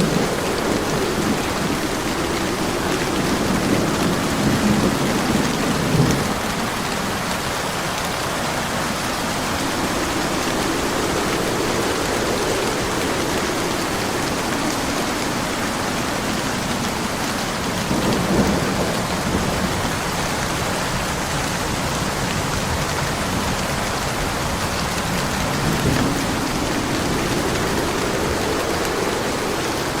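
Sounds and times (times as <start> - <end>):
heavy rain: 0.0 - 30.0
low thunder rumbling: 0.0 - 30.0.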